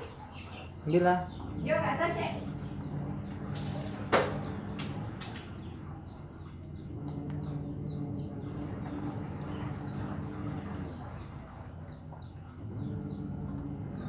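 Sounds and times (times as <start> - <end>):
small bird chirping: 0.0 - 14.0
steady low hum: 0.0 - 14.0.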